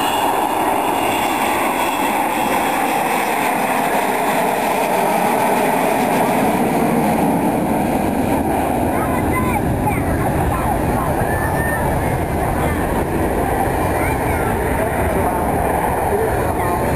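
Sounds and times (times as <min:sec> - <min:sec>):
jet bomber flying overhead: 0:00.0 - 0:16.9.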